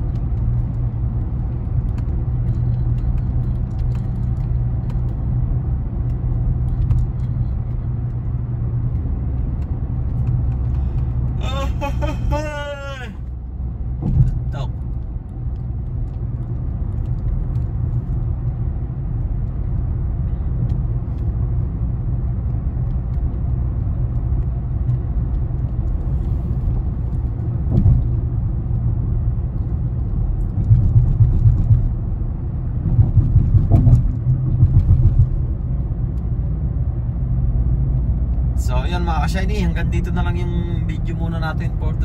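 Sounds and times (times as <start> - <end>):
car cabin road rumble: 0.0 - 42.0.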